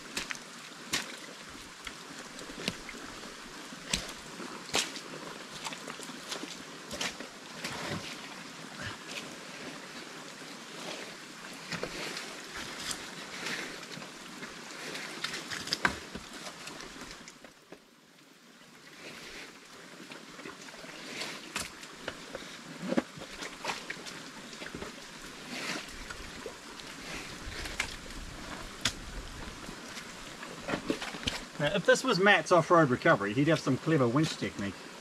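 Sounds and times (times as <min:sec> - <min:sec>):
mud squelching and splashing: 0:00.0 - 0:17.4, 0:20.0 - 0:31.8.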